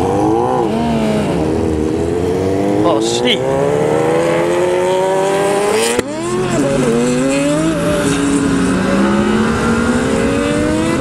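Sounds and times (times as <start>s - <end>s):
racing engines accelerating: 0.0s - 11.0s.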